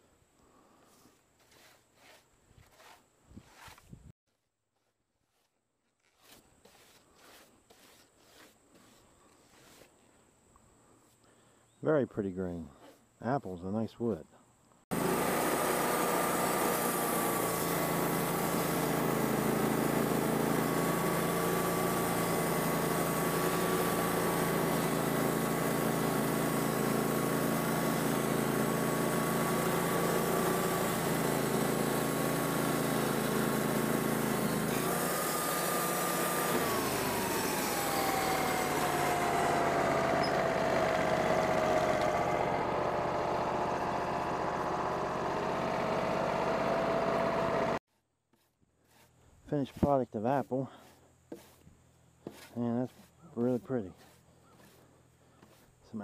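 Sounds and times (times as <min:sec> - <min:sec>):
band sawmill sawing log: 0:00.6 - 0:03.9, 0:05.4 - 0:10.0, 0:14.9 - 0:56.0.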